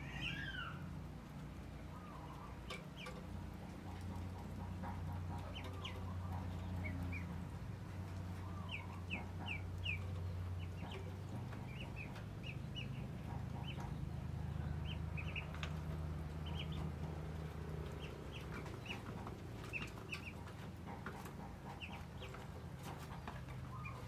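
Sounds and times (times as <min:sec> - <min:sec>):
chickens clucking: 0:00.0 - 0:24.0
low steady hum: 0:00.0 - 0:24.0.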